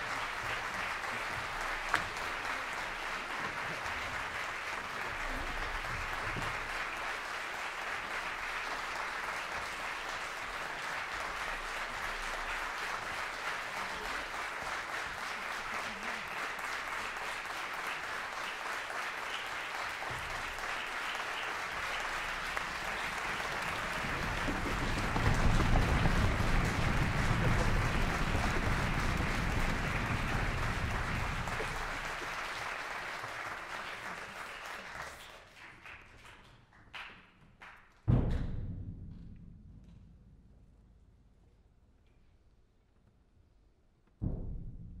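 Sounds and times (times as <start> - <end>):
audience applauding: 0.0 - 37.9.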